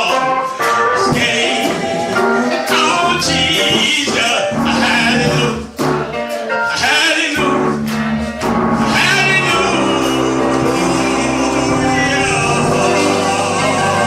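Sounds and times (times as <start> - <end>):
person singing gospel: 0.0 - 14.0.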